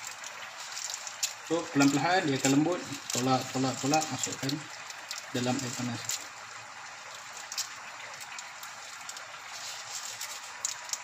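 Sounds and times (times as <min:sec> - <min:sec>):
water boiling in a pot: 0:00.0 - 0:11.0.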